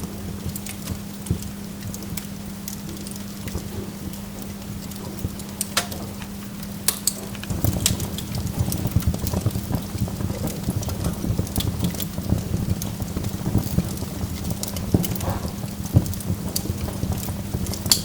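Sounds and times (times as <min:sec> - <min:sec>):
burning logs crackling and popping: 0:00.0 - 0:18.0.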